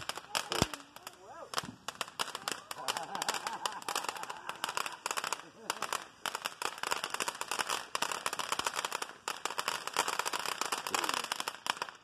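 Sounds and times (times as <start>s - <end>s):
firework fountain crackling: 0.0s - 12.0s.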